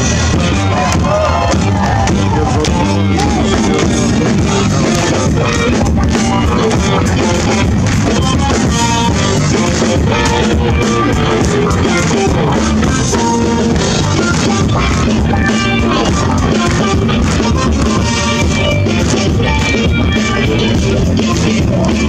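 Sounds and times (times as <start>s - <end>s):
drum kit beat: 0.0s - 22.0s
electric guitar: 0.0s - 22.0s.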